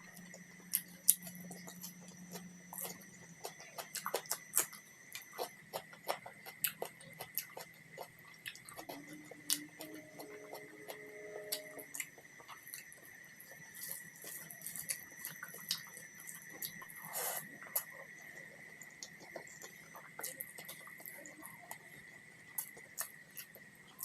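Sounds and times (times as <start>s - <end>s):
faint high whine: 0.0s - 24.0s
chewing with wet mouth smacks: 0.2s - 21.9s.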